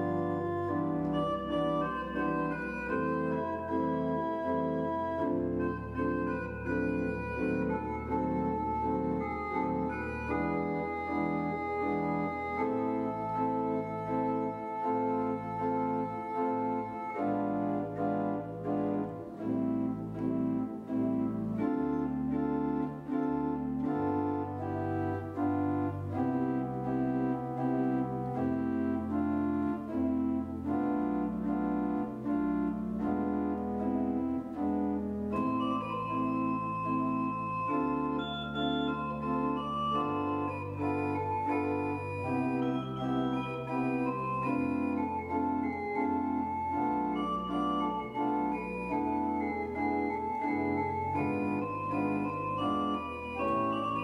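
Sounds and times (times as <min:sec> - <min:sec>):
church organ chords: 0:00.0 - 0:54.0
high organ melody: 0:00.0 - 0:54.0
organ pedal bass line: 0:00.0 - 0:54.0.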